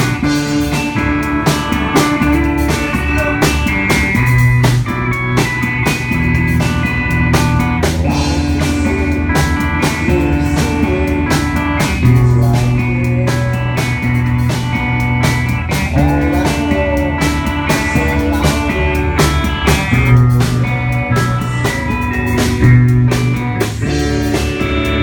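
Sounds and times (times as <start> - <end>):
amplified electric guitar: 0.0 - 25.0
drum kit steady beat: 0.0 - 25.0.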